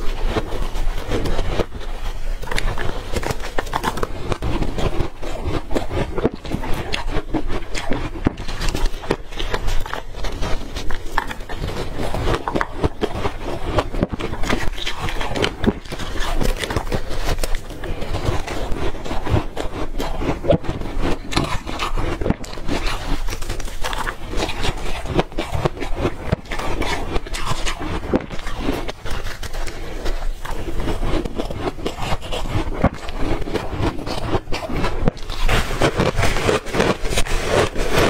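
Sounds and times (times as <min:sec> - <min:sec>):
ice crunching when bitten: 0:00.0 - 0:38.0.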